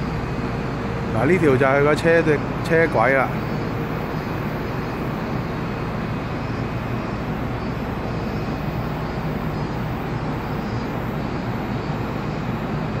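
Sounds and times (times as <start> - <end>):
monorail car mechanical hum: 0.0 - 13.0.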